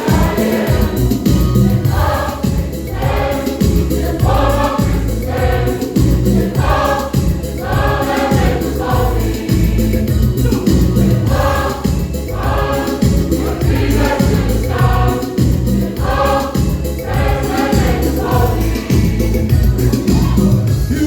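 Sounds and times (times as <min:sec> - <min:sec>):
choir singing in unison: 0:00.0 - 0:20.7
steady-beat backing music: 0:00.0 - 0:21.0.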